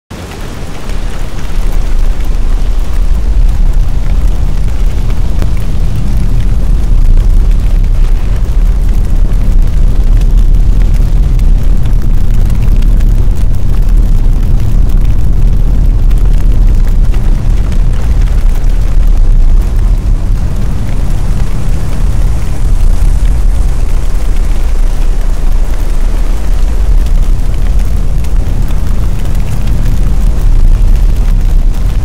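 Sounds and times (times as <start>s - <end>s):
fire crackling: 0.1s - 32.0s
fire rumbling: 0.1s - 32.0s.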